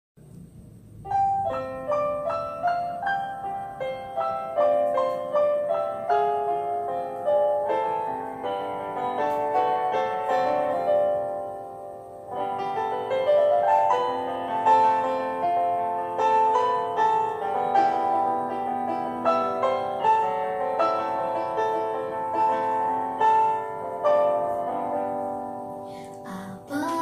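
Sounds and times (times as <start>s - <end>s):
piano playing: 0.2s - 27.0s.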